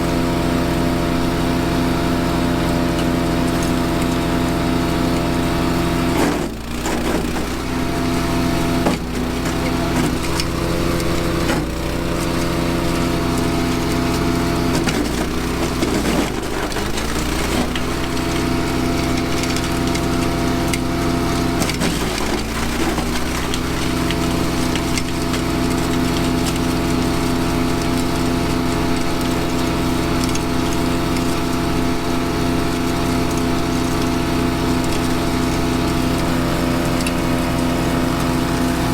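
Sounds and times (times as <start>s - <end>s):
branch chipper engine running: 0.0s - 38.9s
wood cracking and splintering: 6.1s - 38.9s.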